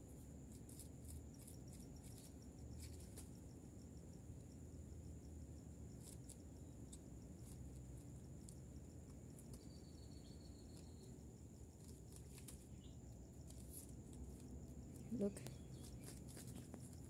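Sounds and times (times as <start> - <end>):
high-pitched insect-like trill: 0.5 - 5.1, 5.9 - 17.0.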